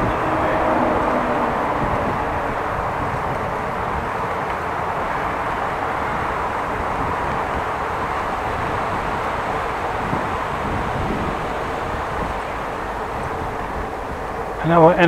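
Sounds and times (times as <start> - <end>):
wind rushing: 0.0 - 14.6
bicycle tyres rolling: 0.0 - 15.0.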